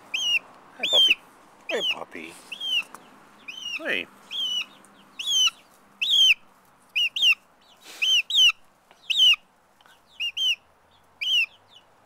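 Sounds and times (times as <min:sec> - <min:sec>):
chicken calling: 0:00.0 - 0:11.9.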